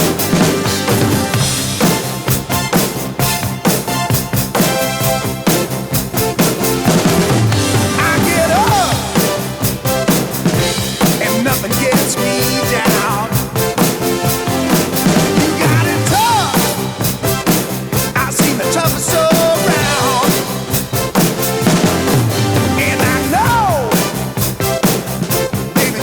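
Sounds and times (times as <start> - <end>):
electronic drum kit beat: 0.0 - 26.0
rock backing track: 0.0 - 26.0.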